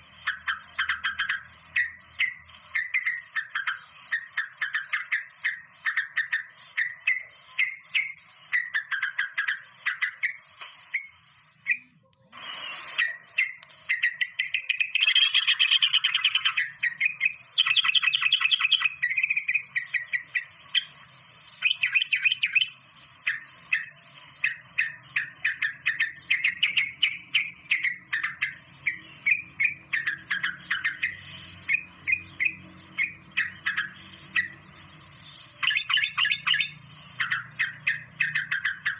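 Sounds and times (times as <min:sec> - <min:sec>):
birds chirping: 0:00.0 - 0:38.9
loud bird trills: 0:00.0 - 0:38.9.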